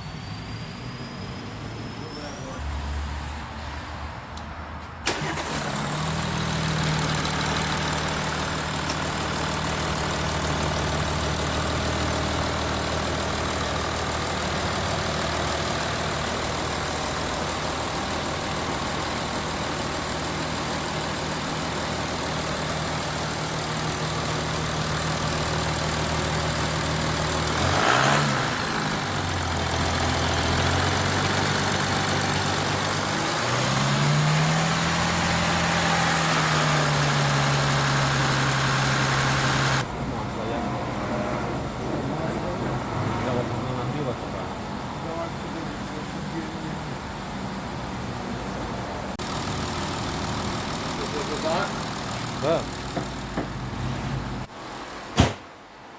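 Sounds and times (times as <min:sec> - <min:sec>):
car engine starting and idling: 0:05.0 - 0:55.8.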